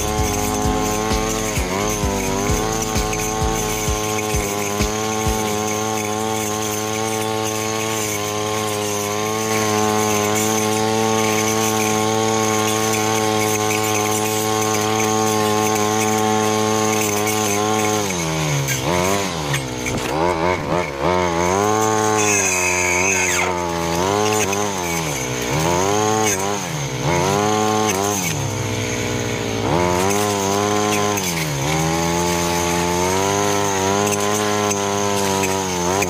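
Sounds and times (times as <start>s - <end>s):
brush cutter engine running: 0.0s - 36.0s.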